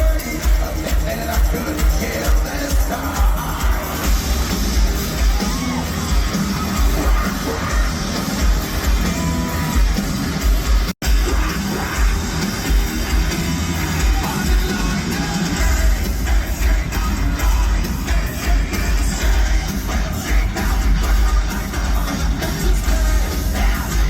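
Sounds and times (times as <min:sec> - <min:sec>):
singing: 0:00.0 - 0:10.0, 0:11.0 - 0:24.0
crowd noise: 0:00.0 - 0:24.0
metal band playing live: 0:00.0 - 0:24.0.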